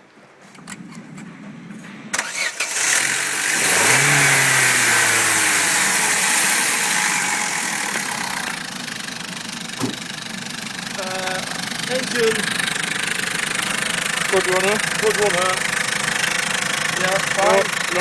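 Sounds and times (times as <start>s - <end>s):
car engine starting and idling: 0.4s - 18.0s.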